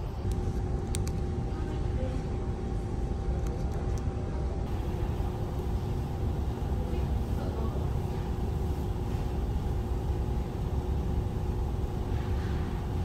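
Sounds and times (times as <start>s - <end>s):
constant hum: 0.0s - 13.0s
low machinery rumble: 0.0s - 13.0s.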